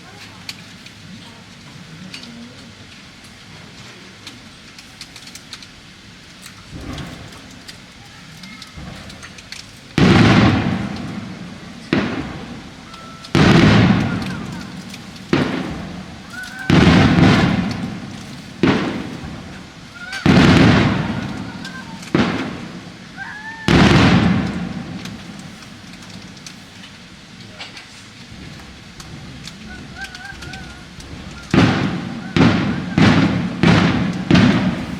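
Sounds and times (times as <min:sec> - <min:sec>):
fireworks booming with echo: 0:00.0 - 0:34.9
fireworks crackling: 0:00.0 - 0:34.9.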